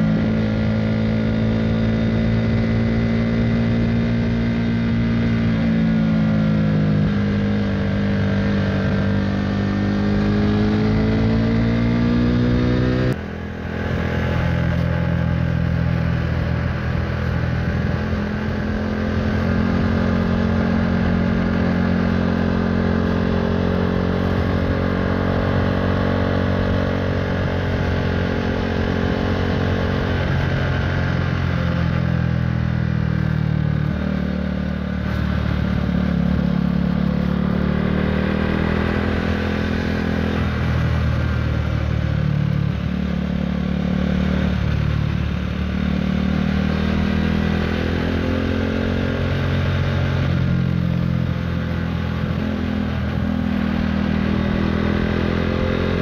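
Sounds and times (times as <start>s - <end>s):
motorcycle engine riding: 0.0s - 56.0s.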